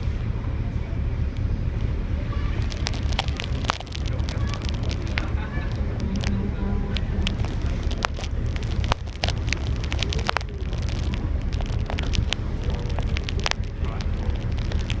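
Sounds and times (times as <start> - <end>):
ferry rumble: 0.0 - 15.0
wind buffeting microphone: 0.0 - 15.0.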